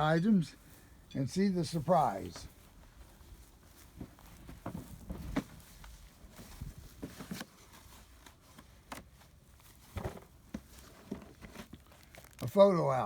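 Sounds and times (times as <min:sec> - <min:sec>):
rustling of handled items: 0:00.0 - 0:13.0.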